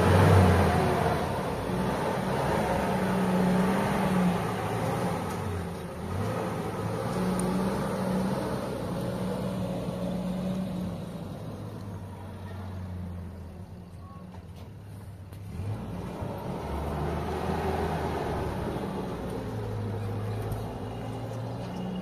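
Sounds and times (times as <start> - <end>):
truck engine driving off: 0.0 - 22.0.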